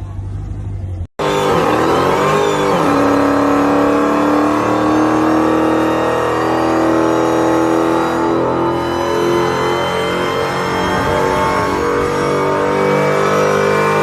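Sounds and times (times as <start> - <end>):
car engine at high revs: 1.2 - 14.0.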